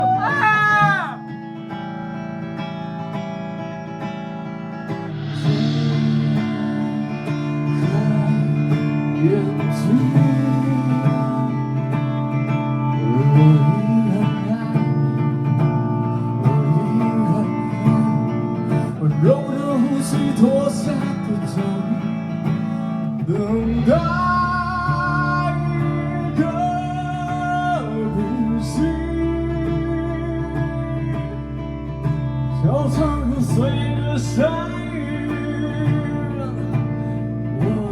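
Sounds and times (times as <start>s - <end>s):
bass guitar: 0.0s - 37.9s
guitar chords and melody: 0.0s - 37.9s.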